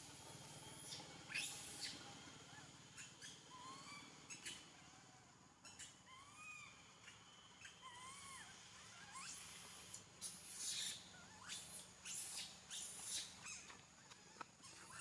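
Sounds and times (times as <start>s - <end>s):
young monkey calling softly: 0.0s - 15.0s.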